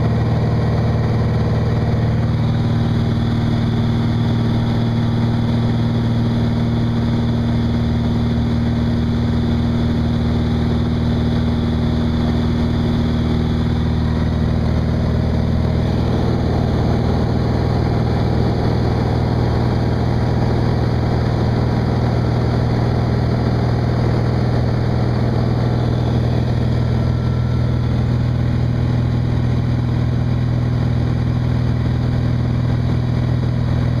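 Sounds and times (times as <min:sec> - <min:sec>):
light aircraft engine droning: 0:00.0 - 0:34.0.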